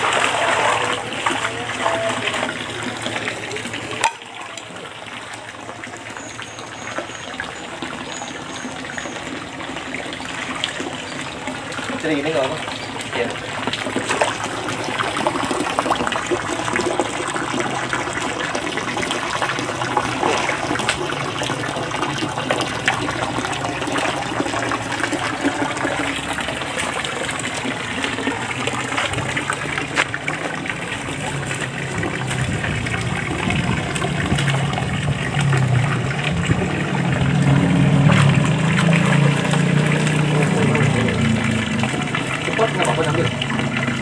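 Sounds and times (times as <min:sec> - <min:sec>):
water pouring from pipe splashing: 0:00.0 - 0:44.0.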